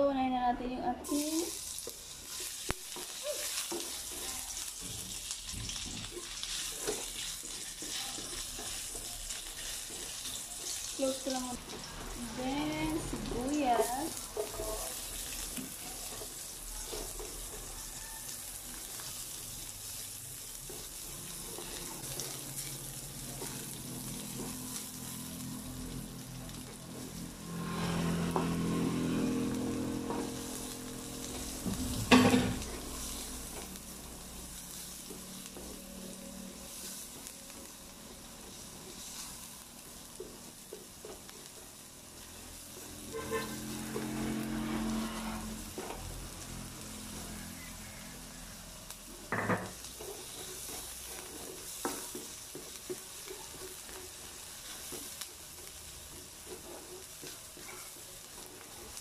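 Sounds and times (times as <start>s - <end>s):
aromatics sizzling in oil: 0.0s - 59.0s
spoon stirring in a wok: 1.1s - 59.0s.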